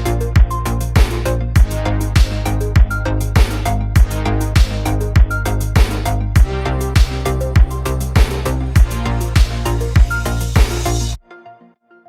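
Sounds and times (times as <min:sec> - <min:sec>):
electronic music with bass kicks: 0:00.0 - 0:11.2.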